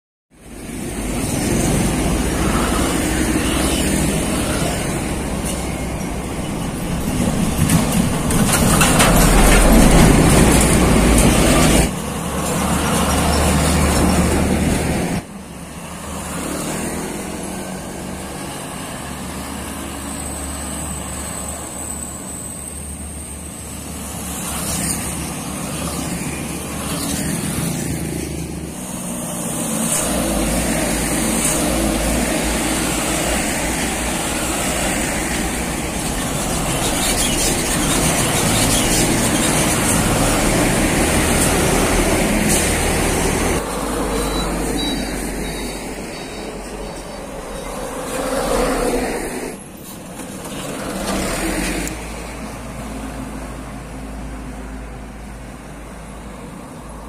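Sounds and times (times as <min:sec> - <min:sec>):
cars and motorbikes passing: 0:00.4 - 0:57.0
large truck passing: 0:00.4 - 0:57.0.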